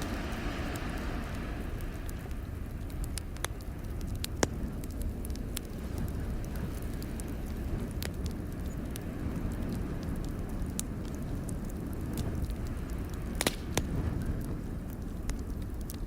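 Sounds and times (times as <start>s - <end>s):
sharp pops of fire: 0.0s - 16.0s
steady low rumble: 0.0s - 16.0s
wood fire crackling: 0.0s - 16.0s.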